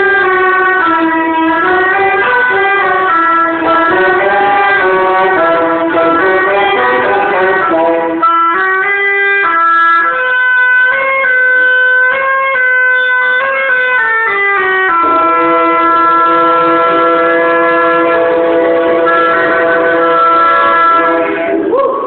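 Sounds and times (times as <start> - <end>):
instrumental quintet sustained chords: 0.0 - 21.8.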